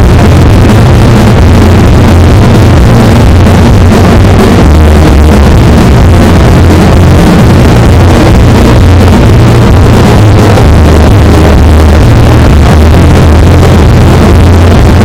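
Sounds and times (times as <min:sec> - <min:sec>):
distorted deep bass: 0:00.0 - 0:15.0
harsh distorted noise: 0:00.0 - 0:15.0.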